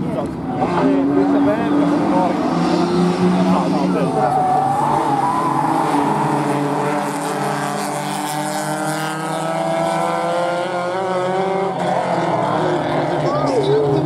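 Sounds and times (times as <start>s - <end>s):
racing car engines: 0.0s - 14.0s.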